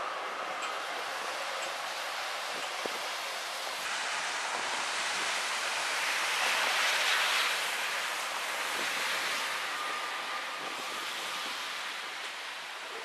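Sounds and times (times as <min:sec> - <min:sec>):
tyres hissing on wet road: 0:00.0 - 0:13.0.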